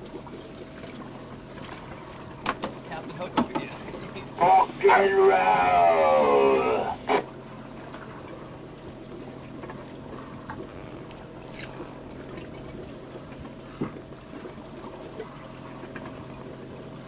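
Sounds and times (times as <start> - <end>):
boat engine droning: 0.0 - 17.0
water sloshing along hull: 0.0 - 17.0.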